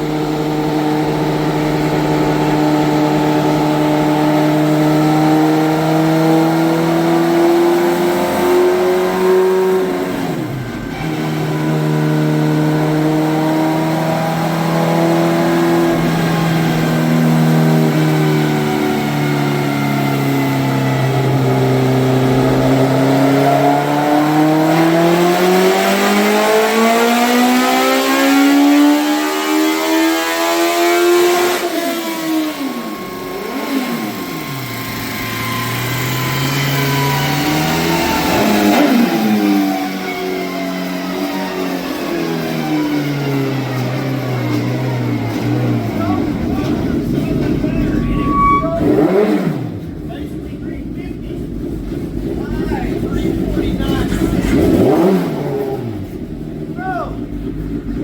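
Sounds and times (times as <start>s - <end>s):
engines running hard: 0.0s - 58.0s.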